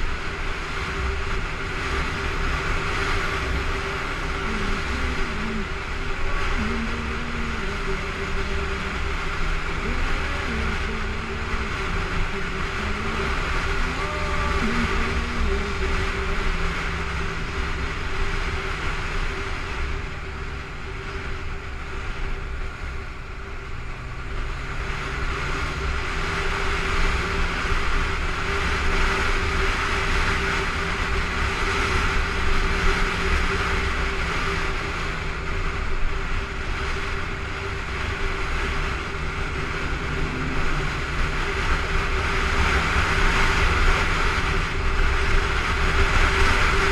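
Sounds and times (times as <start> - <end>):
motorcycle engine hum: 0.0 - 46.9
wind and road noise: 0.0 - 46.9.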